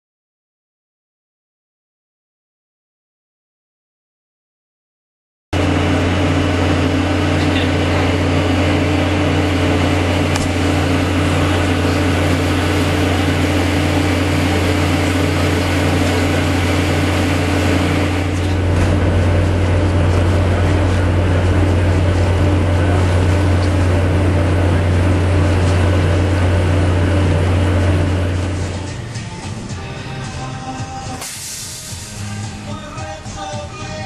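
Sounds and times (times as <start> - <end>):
ship machinery humming: 5.6 - 33.7.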